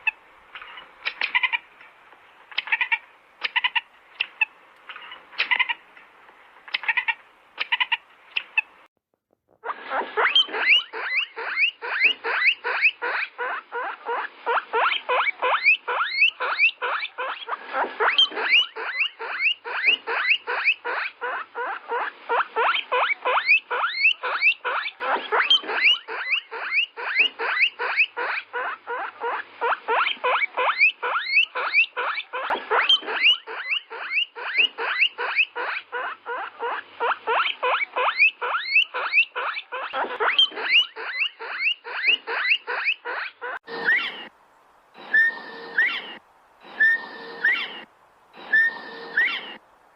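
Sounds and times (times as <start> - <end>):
animal squeaky calls: 0.0 - 1.7, 2.5 - 5.8, 6.7 - 8.7, 9.6 - 44.3, 45.0 - 49.6.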